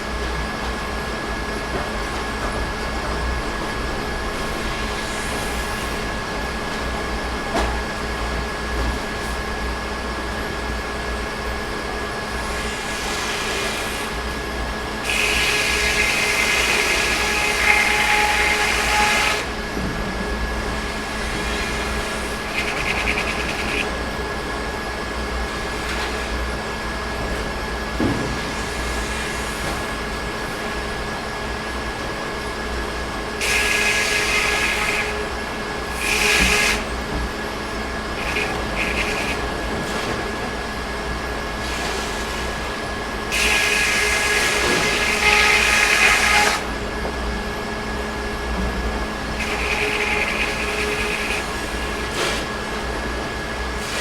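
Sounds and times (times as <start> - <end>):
sawmill mechanical hum: 0.0 - 54.0.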